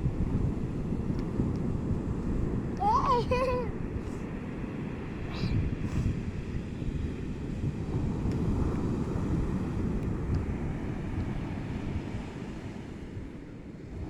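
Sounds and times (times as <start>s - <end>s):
sea surf: 0.0s - 14.0s
wind buffeting microphone: 0.0s - 14.0s.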